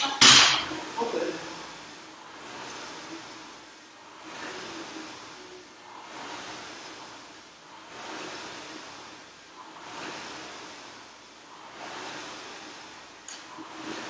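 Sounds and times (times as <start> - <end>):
rowing machine flywheel whooshing: 0.0 - 14.0.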